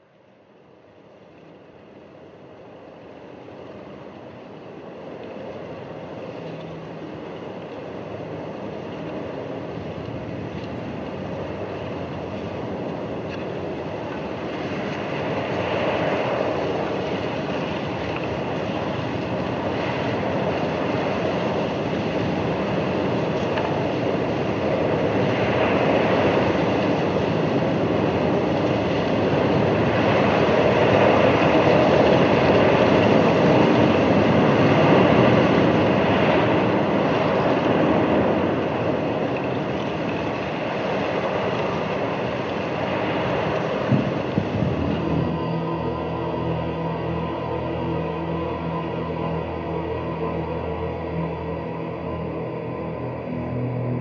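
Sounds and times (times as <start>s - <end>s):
rushing rumbling noise: 2.8s - 54.0s.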